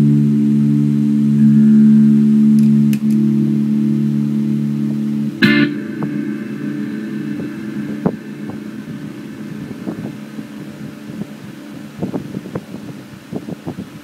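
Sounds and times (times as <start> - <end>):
electric guitar chord ringing: 0.0 - 13.3.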